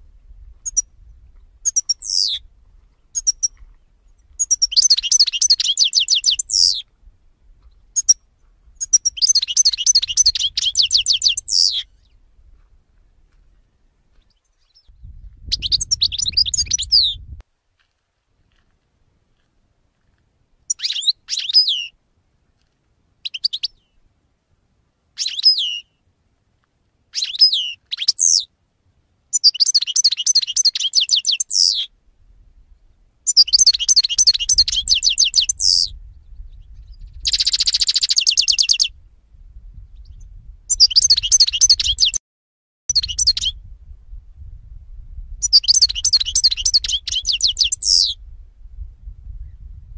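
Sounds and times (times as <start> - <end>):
songbirds chirping and twittering: 0.0 - 17.4, 19.3 - 24.1, 25.1 - 28.5, 29.3 - 32.0, 32.6 - 39.0, 39.6 - 42.2, 42.9 - 43.7, 45.4 - 48.3.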